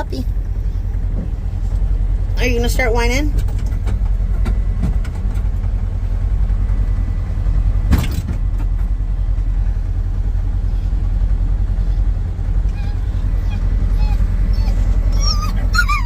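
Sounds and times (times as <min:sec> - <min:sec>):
utility vehicle idling: 0:00.0 - 0:16.0.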